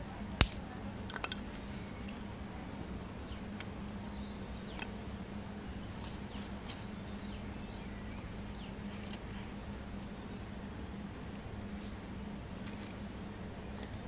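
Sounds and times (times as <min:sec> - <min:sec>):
burning wood crackling: 0:00.0 - 0:14.0
small birds chirping: 0:00.6 - 0:14.0.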